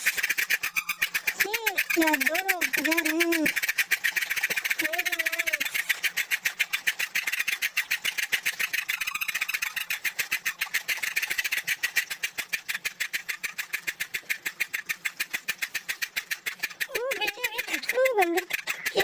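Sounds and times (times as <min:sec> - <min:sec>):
mechanical toy clattering: 0:00.0 - 0:11.6, 0:12.5 - 0:19.0.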